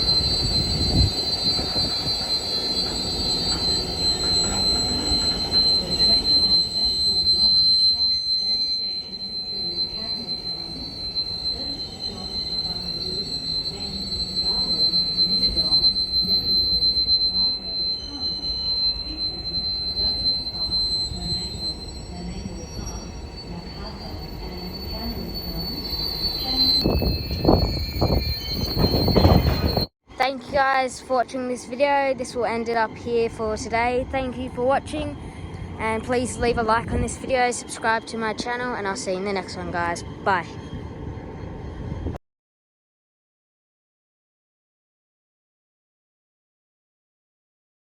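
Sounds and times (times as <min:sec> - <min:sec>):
train wheels squealing: 0:00.0 - 0:29.9, 0:32.1 - 0:42.2
low train rumble: 0:00.0 - 0:42.2.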